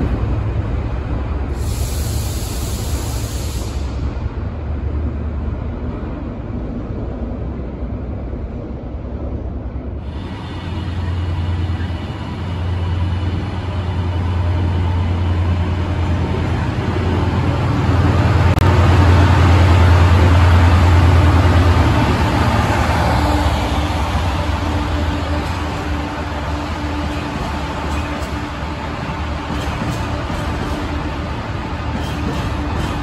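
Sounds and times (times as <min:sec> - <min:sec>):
diesel locomotive engine drone: 0:00.0 - 0:33.0
train rumble: 0:00.0 - 0:33.0.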